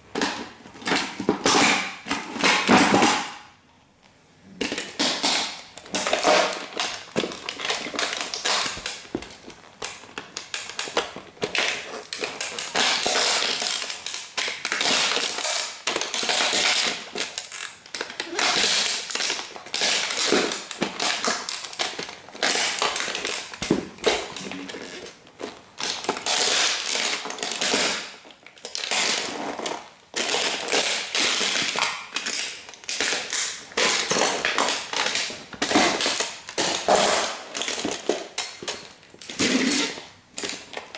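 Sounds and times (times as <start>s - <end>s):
toy car crunching under boots: 4.6s - 40.9s.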